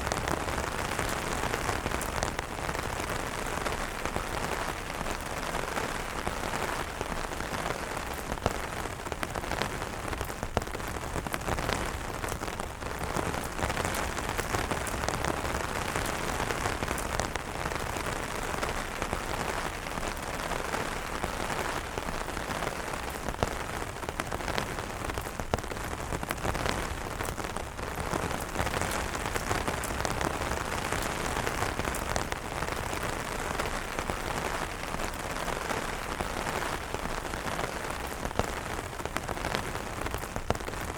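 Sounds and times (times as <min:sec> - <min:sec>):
rain on umbrellas: 0:00.0 - 0:40.9
sharp raindrop ticks: 0:00.0 - 0:40.9.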